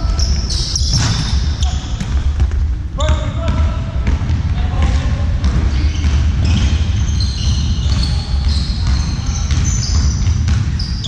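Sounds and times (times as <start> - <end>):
ball bouncing: 0.0 - 11.0.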